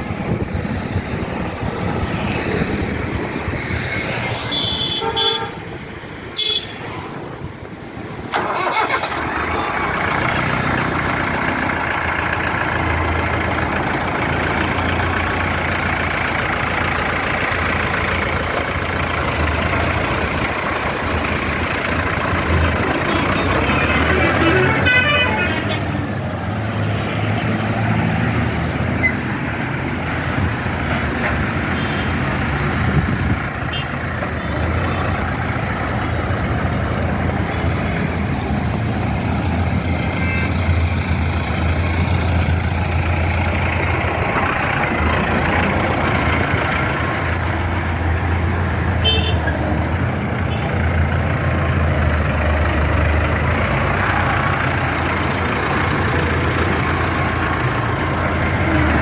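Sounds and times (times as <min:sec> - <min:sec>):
tractor diesel engine running: 0:00.0 - 0:03.6, 0:07.2 - 0:59.0.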